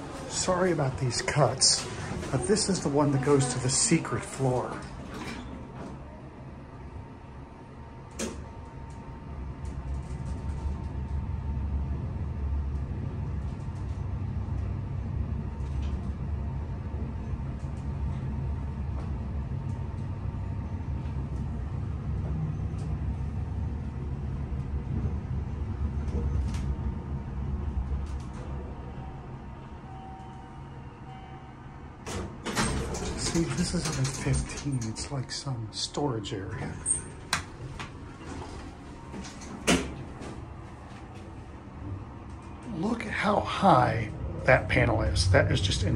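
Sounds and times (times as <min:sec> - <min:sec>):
elevator hum and rumble: 0:00.0 - 0:45.9.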